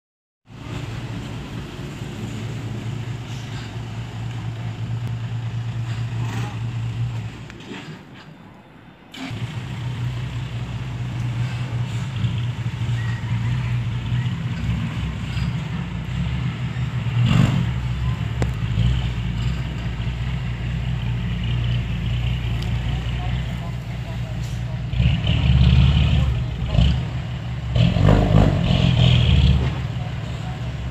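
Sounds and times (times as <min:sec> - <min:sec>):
diesel truck engine droning: 0:00.5 - 0:30.9.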